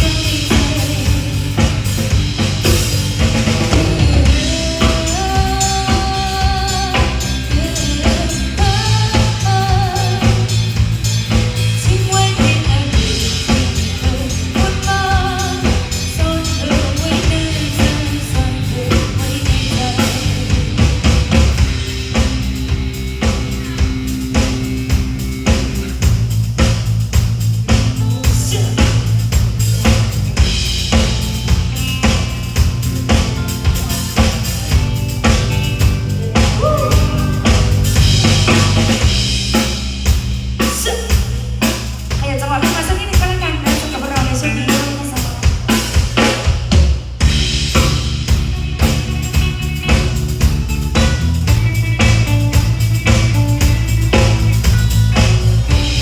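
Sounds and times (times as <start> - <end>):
drum kit beat: 0.0 - 56.0
live band playing: 0.0 - 56.0.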